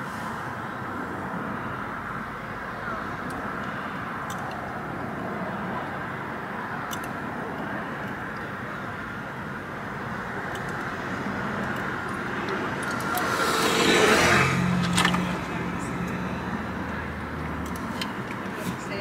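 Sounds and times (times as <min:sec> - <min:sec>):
traffic and road noise: 0:00.0 - 0:19.0
vehicle approaching: 0:00.0 - 0:19.0.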